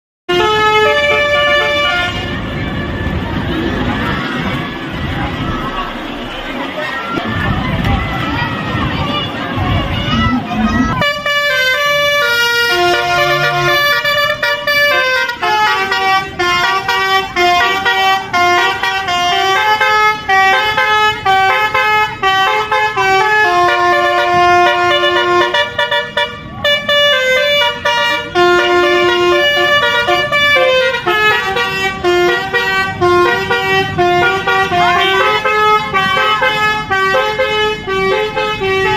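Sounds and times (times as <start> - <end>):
truck horn playing a tune: 0.3 - 3.2, 9.9 - 38.9.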